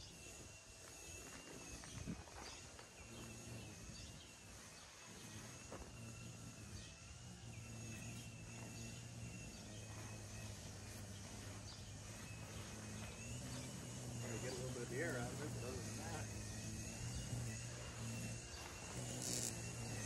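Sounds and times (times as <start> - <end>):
bird chirps: 0.0 - 20.0
steady low hum: 0.0 - 20.0.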